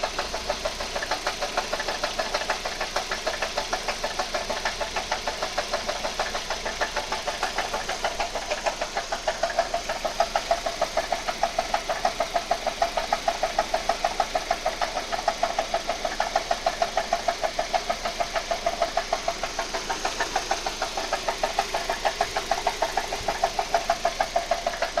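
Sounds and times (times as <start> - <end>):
engine running with rapid knock: 0.0 - 25.0.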